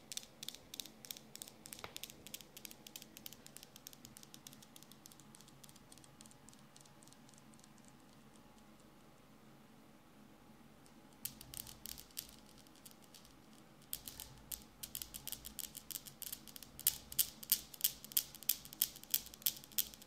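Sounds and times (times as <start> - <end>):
metal balls clacking: 0.0 - 8.9, 11.2 - 20.0.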